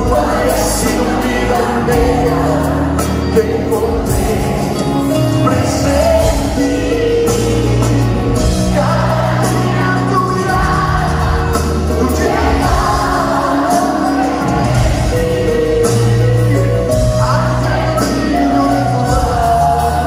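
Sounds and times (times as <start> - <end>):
live band playing: 0.0 - 20.0
person singing: 0.0 - 20.0.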